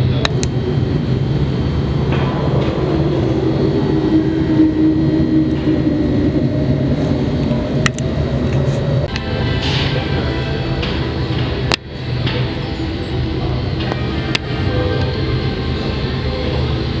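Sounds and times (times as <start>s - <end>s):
low rumbling drone: 0.0s - 17.0s.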